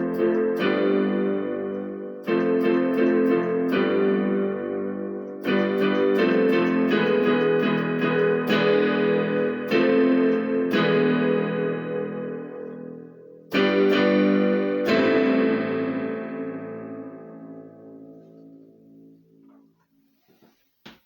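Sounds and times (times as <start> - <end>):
electronic keyboard playing chords: 0.0 - 19.8.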